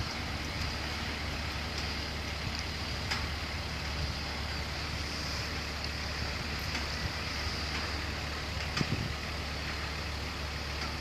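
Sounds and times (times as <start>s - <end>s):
wind noise: 0.0s - 9.5s
engine idling hum: 0.0s - 11.0s.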